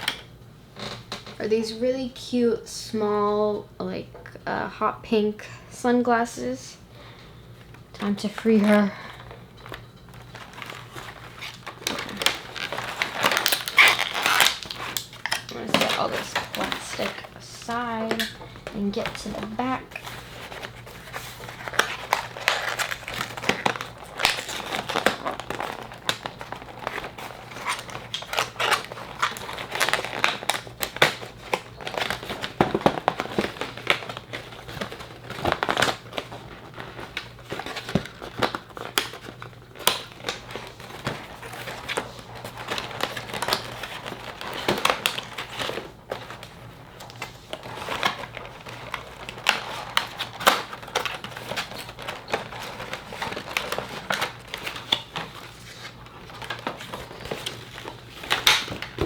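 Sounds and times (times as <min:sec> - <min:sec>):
plastic packaging crinkling: 0:06.9 - 0:59.0.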